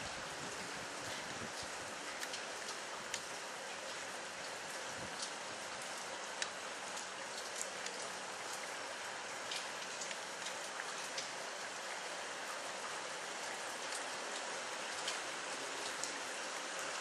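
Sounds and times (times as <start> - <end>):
sharp taps of raindrops: 0.0 - 8.7, 9.4 - 12.0, 13.4 - 16.2
steady rain hiss: 0.0 - 17.0.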